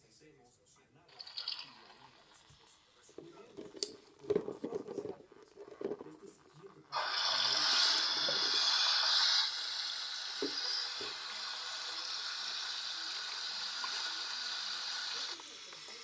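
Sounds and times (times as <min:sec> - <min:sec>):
water rushing into washing machine: 0:01.1 - 0:16.0.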